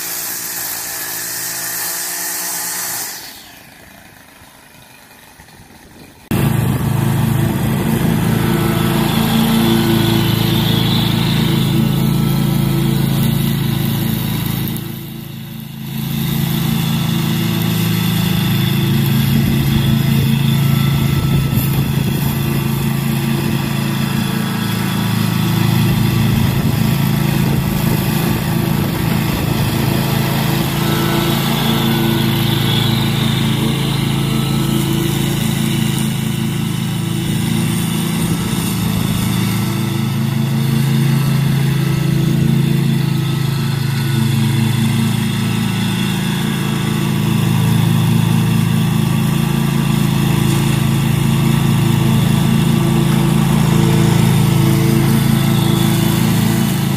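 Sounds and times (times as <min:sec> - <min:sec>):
mower engine cutting grass: 0:00.0 - 0:56.9.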